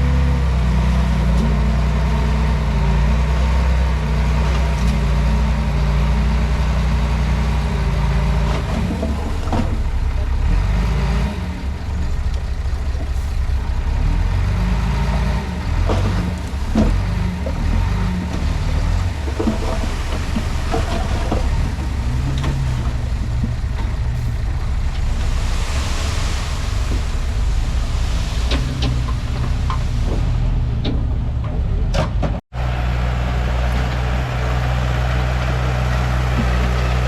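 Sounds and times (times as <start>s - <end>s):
bulldozer diesel engine rumbling: 0.0s - 37.0s.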